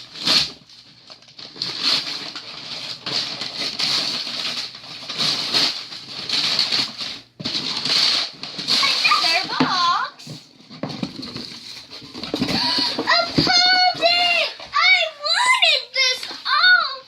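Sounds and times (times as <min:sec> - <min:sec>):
wrapping paper tearing and crumpling: 0:00.0 - 0:17.0.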